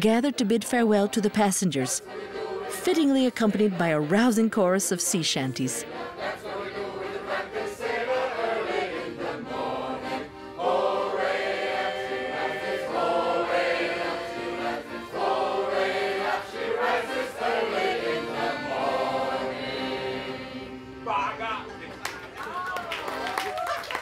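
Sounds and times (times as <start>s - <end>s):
choir singing sea shanty: 0.2s - 23.7s.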